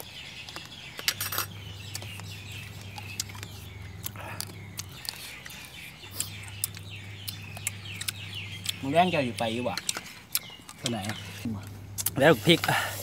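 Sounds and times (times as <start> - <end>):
high falling chirps: 0.0 - 11.4
low steady hum: 0.9 - 13.0.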